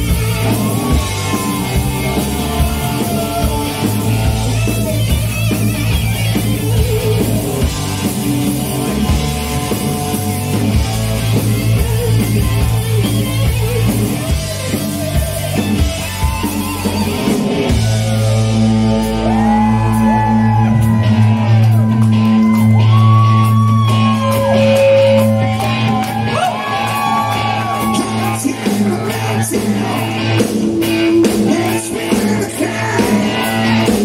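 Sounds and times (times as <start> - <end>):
bass guitar: 0.0 - 34.0
distorted electric guitars: 0.0 - 34.0
drum kit: 0.0 - 34.0.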